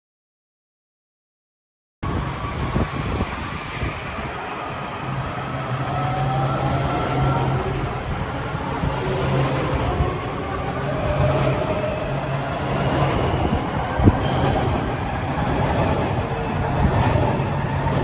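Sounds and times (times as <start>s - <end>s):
train mechanical hum: 2.1s - 18.0s.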